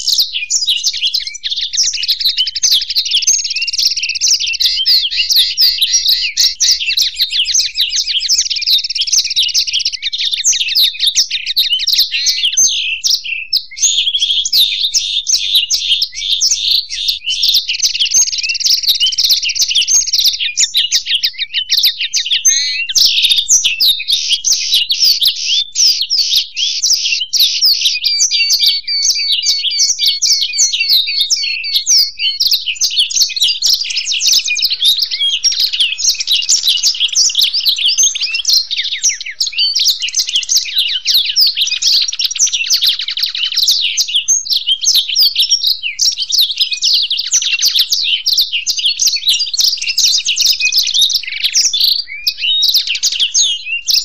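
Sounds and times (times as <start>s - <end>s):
finches singing: 0.0s - 54.0s.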